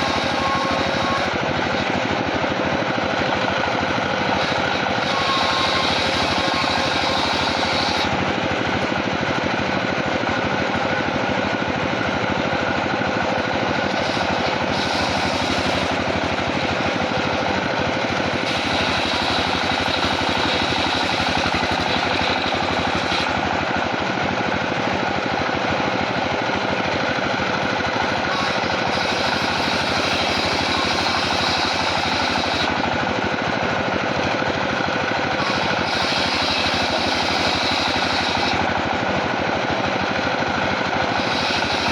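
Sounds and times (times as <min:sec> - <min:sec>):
sawmill machinery rattling: 0:00.0 - 0:41.9.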